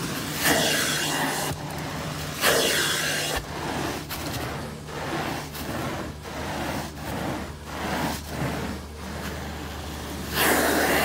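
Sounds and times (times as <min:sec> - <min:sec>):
carpet wand suction rushing: 0:00.0 - 0:11.0.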